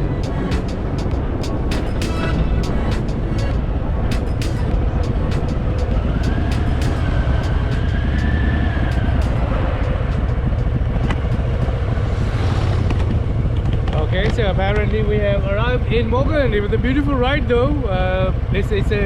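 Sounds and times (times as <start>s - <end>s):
motorcycle engine low rumble: 0.0s - 19.0s.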